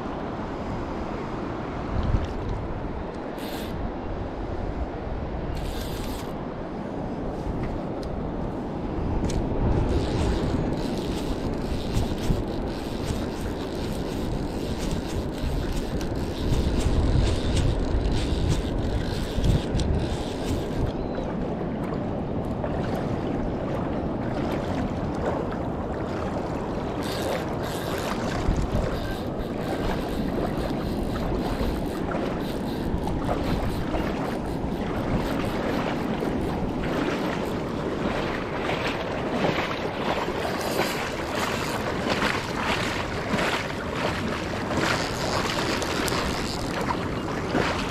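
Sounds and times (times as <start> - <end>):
wind buffeting microphone: 0.0 - 47.9
shallow water washing: 8.3 - 47.9.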